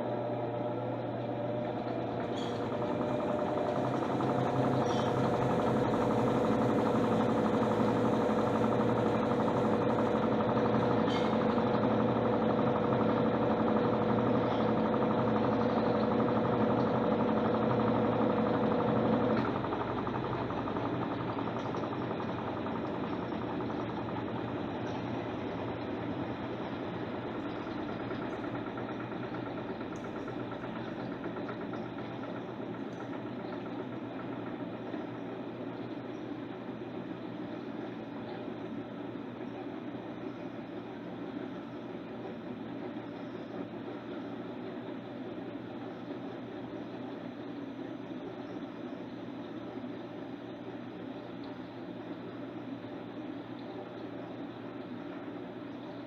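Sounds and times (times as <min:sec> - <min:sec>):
washing machine running: 0:00.0 - 0:56.0.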